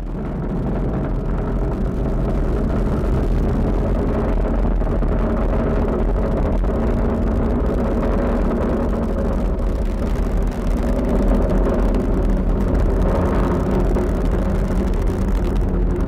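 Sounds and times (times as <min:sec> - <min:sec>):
rocket engines rumbling: 0:00.0 - 0:16.0.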